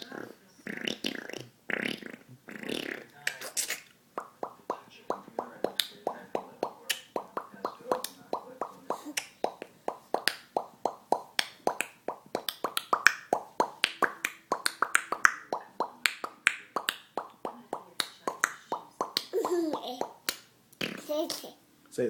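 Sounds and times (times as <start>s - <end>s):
mouth popping sounds: 0.0s - 21.4s.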